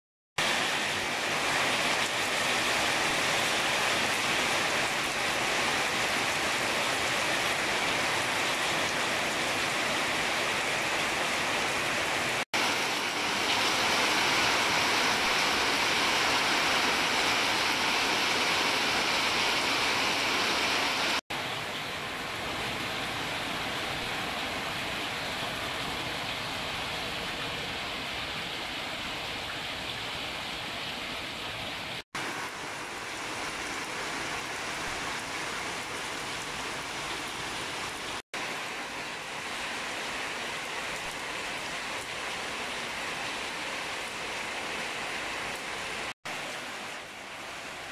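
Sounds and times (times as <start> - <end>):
rain on plants and concrete: 0.4 - 47.9
rainwater running in drain channel: 0.4 - 47.9.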